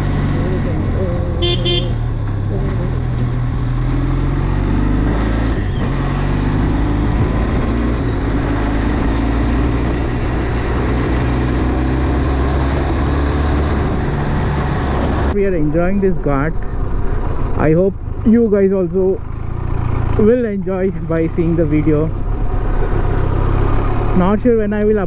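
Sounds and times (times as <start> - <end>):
motorcycle engine running: 0.0 - 11.0, 15.4 - 25.0
wind and road noise: 0.0 - 25.0.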